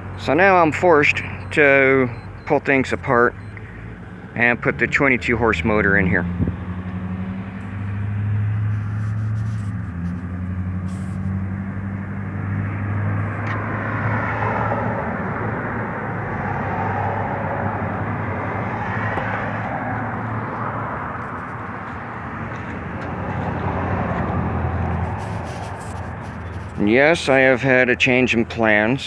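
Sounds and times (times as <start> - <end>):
passing vehicle engine hum: 0.0 - 29.0.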